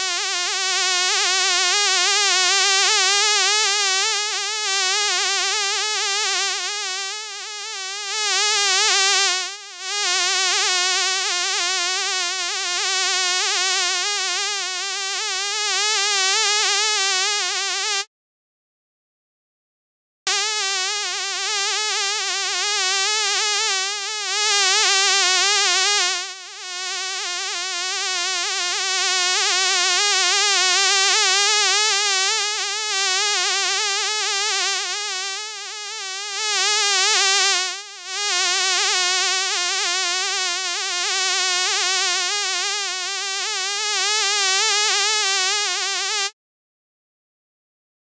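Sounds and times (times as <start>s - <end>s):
fly buzzing: 0.0s - 18.1s, 20.3s - 46.3s.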